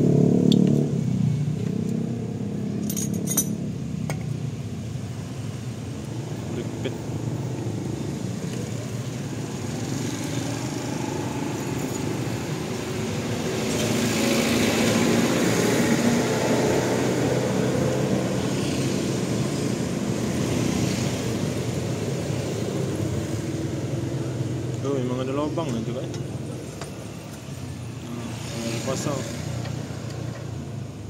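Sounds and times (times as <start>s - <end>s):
traffic engine hum: 0.0s - 31.0s.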